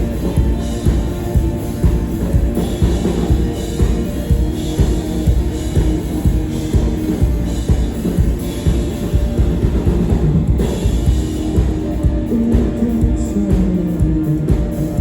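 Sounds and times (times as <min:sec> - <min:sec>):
drum kit hitting: 0:00.0 - 0:15.0
live rock band playing: 0:00.0 - 0:15.0.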